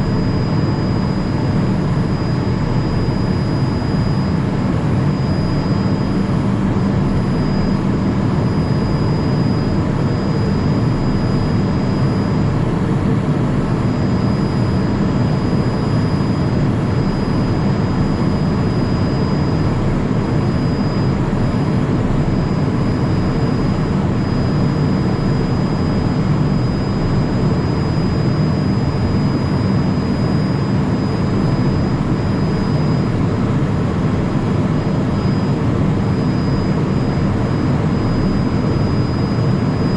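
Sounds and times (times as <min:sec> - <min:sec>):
jet cabin engine and airflow rush: 0:00.0 - 0:39.9
thin high whine: 0:00.0 - 0:39.9.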